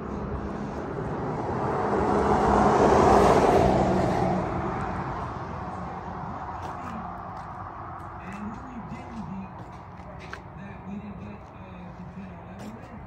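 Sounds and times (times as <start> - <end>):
road vehicle passing by: 0.0 - 13.0.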